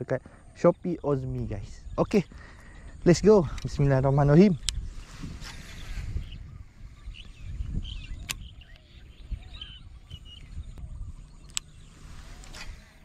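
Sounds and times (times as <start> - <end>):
wind rumbling on microphone: 0.2 - 13.0
high bird chirps: 0.5 - 13.0.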